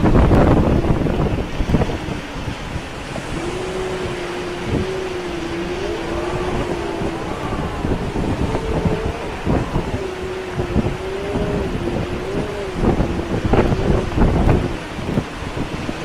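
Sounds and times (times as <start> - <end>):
wind buffeting the microphone: 0.0 - 16.0
steady whistling tone: 2.8 - 16.0.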